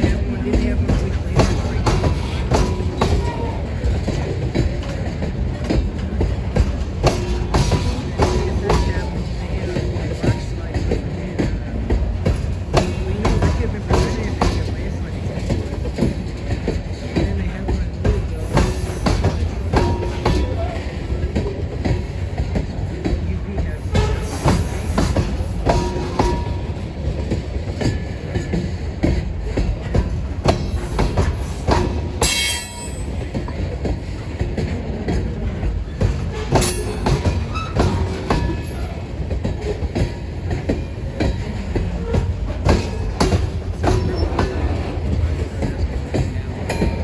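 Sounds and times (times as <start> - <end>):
freight train rumbling past: 0.0 - 47.0
wheel clicks over rail joints: 0.0 - 47.0.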